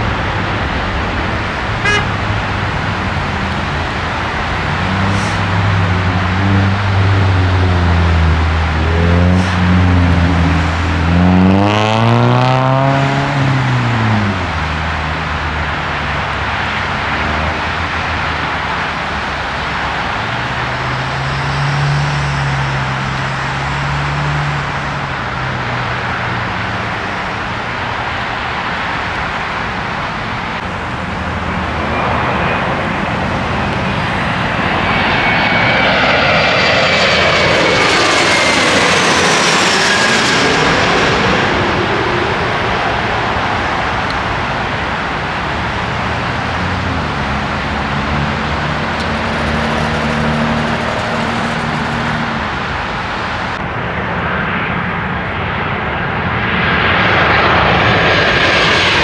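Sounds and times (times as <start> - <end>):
vehicle engine rising in pitch: 0.0 - 29.4, 30.0 - 53.6
road traffic noise: 0.0 - 59.0.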